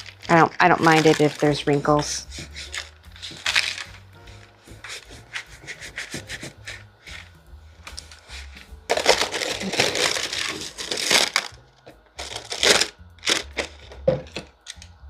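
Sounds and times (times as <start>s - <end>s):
paper crinkling and rustling: 0.0s - 7.3s, 7.9s - 11.6s, 12.2s - 14.9s.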